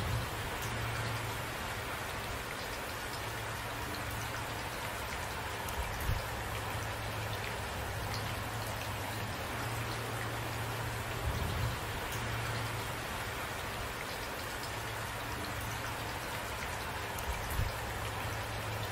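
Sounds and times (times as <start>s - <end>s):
raindrop ticks: 0.0s - 1.4s, 2.0s - 18.9s
steady rain hiss: 0.0s - 18.9s.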